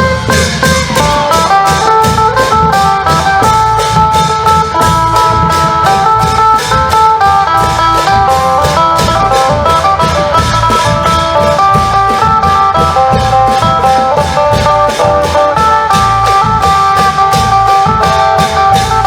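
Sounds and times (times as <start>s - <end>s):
fast drum beat: 0.0s - 19.0s
plucked lute melody: 0.0s - 19.0s.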